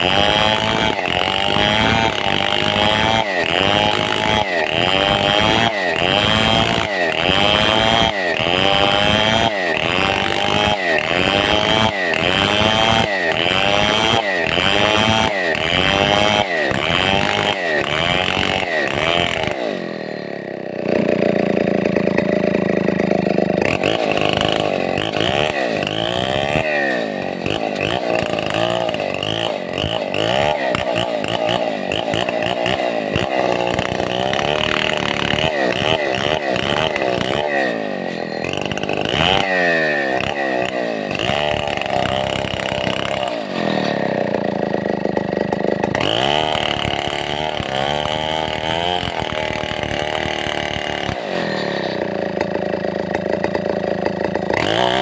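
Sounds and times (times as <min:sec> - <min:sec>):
chainsaw cutting timber: 0:00.0 - 0:55.0.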